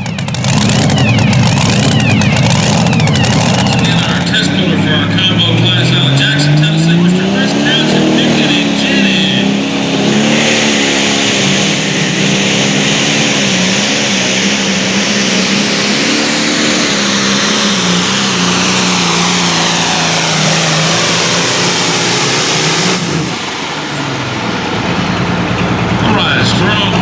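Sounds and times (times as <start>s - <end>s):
engine at full throttle with whine: 0.0s - 27.0s.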